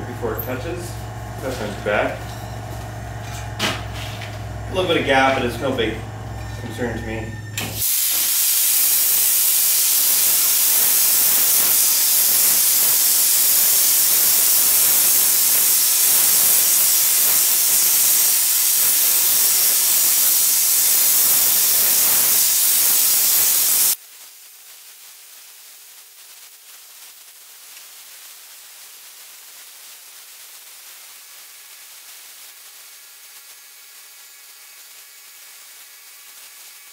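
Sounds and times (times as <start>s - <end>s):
plasma cutter arc hissing: 0.0s - 24.0s, 26.0s - 36.9s.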